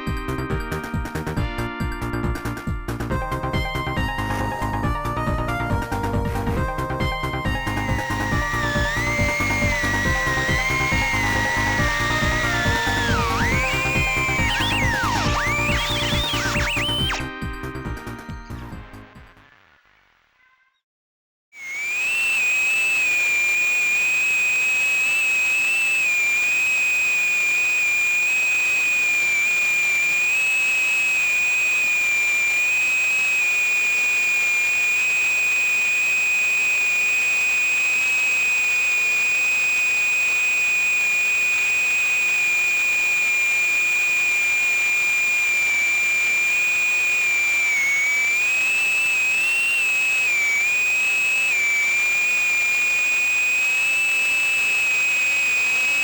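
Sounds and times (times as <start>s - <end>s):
drone motors whining: 7.5s - 18.8s, 21.6s - 56.0s.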